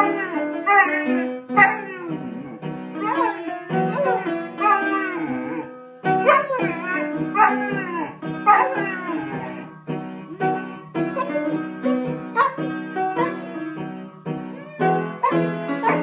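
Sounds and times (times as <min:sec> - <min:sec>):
puppy howling: 0:00.0 - 0:12.6, 0:13.2 - 0:13.4, 0:14.5 - 0:16.0
upright piano playing: 0:00.0 - 0:16.0.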